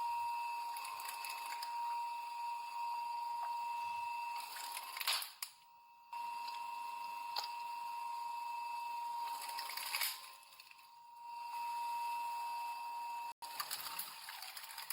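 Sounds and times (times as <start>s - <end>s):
crushing machine whining: 0.0s - 14.9s.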